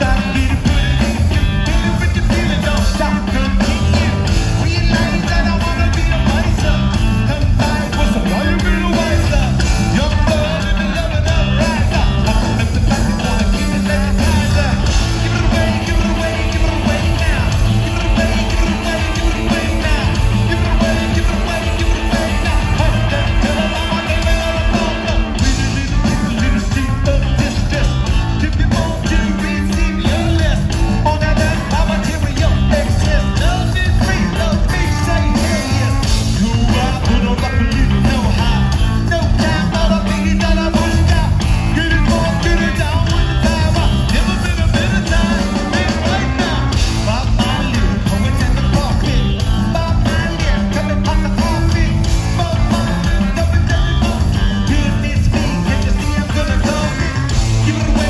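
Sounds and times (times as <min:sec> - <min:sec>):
bass guitar: 0:00.0 - 0:58.0
drums: 0:00.0 - 0:58.0
electric guitar: 0:00.0 - 0:58.0
person singing: 0:00.0 - 0:58.0.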